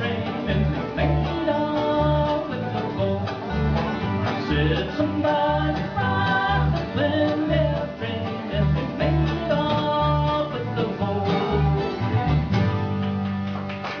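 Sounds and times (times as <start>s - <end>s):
upright bass thumping: 0.0s - 13.8s
banjo picking: 0.0s - 14.0s
bluegrass band playing: 0.0s - 14.0s
guitar picking: 0.0s - 14.0s
mandolin picking: 0.0s - 14.0s.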